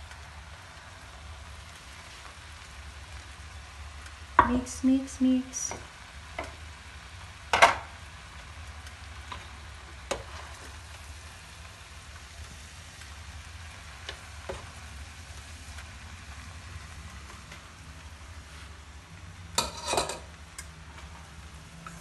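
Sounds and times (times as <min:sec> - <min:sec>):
noodles sizzling in a frying pan: 0:00.0 - 0:22.0.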